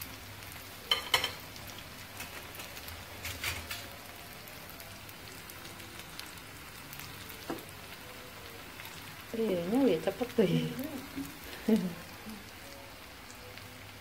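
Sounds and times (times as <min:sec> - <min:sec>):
fritters sizzling in hot oil: 0:00.0 - 0:14.0.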